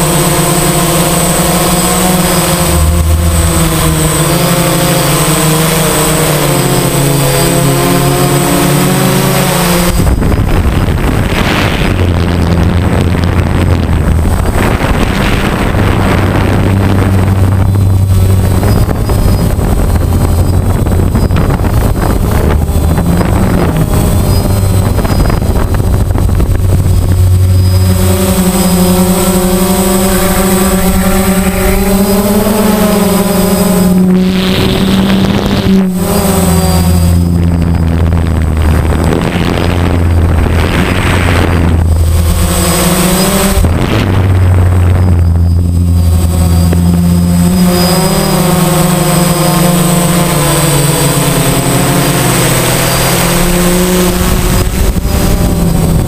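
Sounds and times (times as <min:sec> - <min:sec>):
drone motors whining: 0:00.0 - 0:56.0
wind rushing over microphone: 0:00.0 - 0:56.0.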